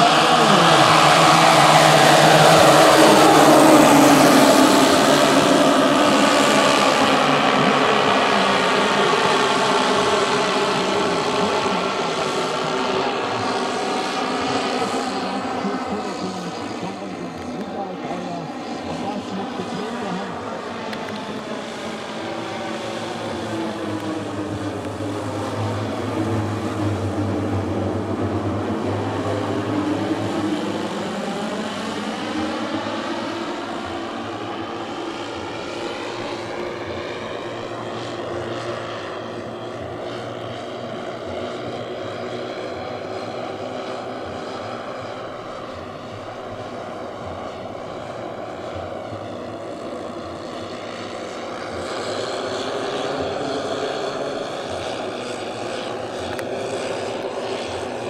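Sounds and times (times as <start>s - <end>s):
model plane engines droning: 0.0s - 58.0s.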